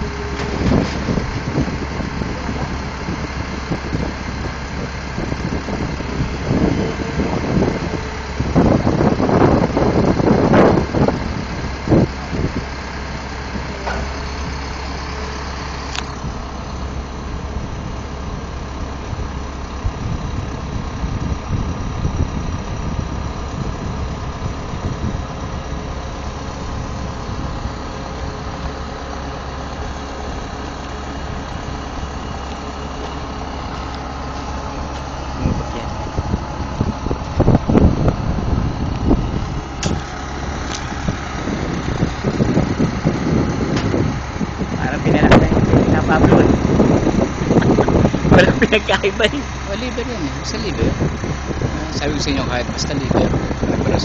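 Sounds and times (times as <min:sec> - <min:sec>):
crane engine idling: 0:00.0 - 0:54.0.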